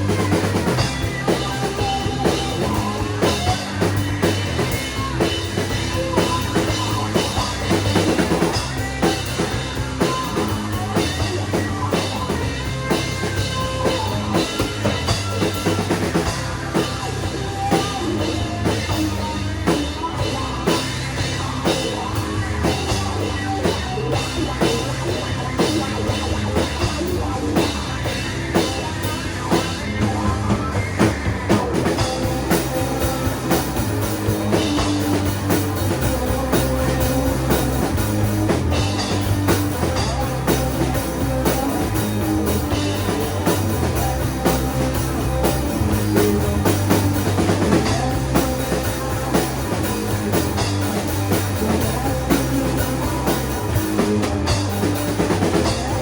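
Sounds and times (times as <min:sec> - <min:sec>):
drum kit beat: 0:00.0 - 0:56.0
shoegaze rock band: 0:00.0 - 0:56.0.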